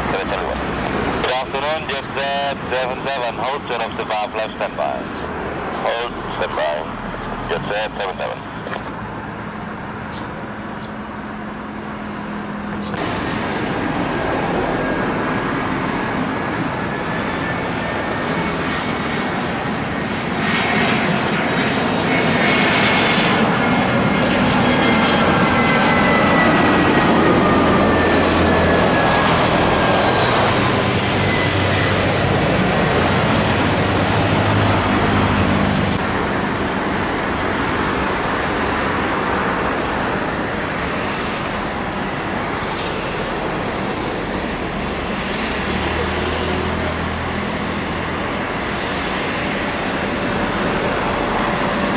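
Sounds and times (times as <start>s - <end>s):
jet airliner landing: 0.0s - 51.9s
jet engines taxiing: 0.0s - 51.9s.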